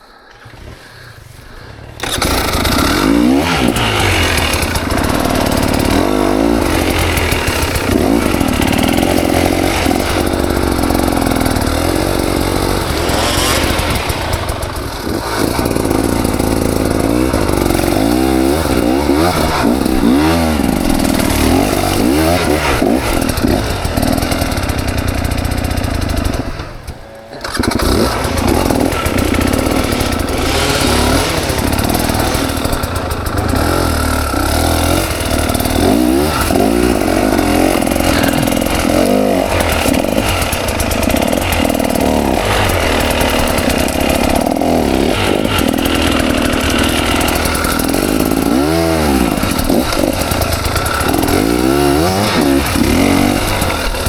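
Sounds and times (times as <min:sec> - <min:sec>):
dirt bike engine revving: 0:00.1 - 0:54.0.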